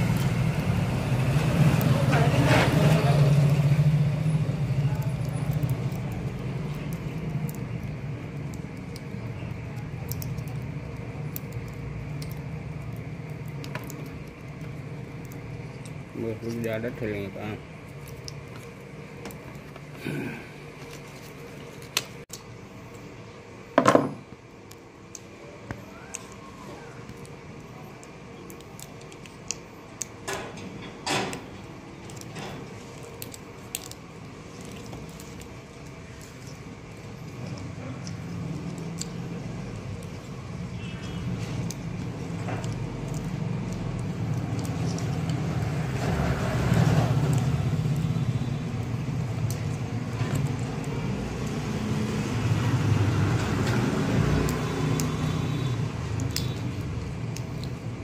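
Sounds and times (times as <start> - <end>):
wire clicks and scratches: 0.0 - 20.0, 20.7 - 22.6, 24.6 - 58.0.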